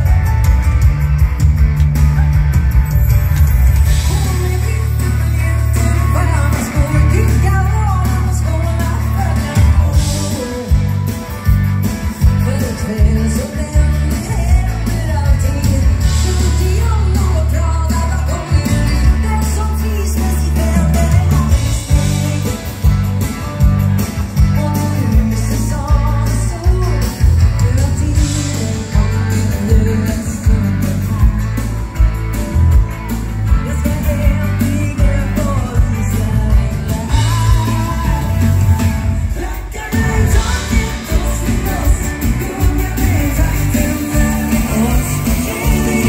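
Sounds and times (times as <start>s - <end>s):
live band dance music: 0.0s - 46.0s
woman singing: 3.9s - 11.1s, 12.1s - 22.9s, 24.4s - 31.4s, 33.6s - 46.0s.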